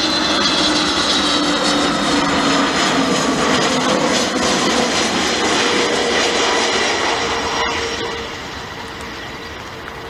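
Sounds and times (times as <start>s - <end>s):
jet engines on approach: 0.0s - 10.0s.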